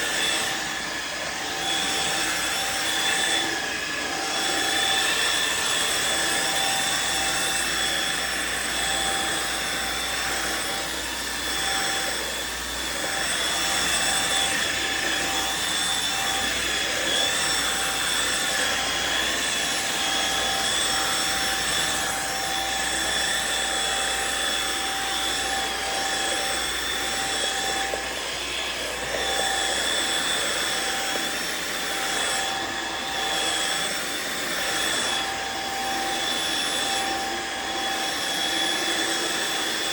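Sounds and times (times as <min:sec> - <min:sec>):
floor washer suction motor whine: 0:00.0 - 0:39.9.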